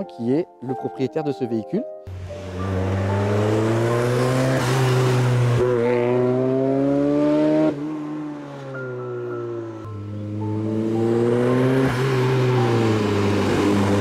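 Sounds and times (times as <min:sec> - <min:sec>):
car engine accelerating hard: 0:02.1 - 0:14.0.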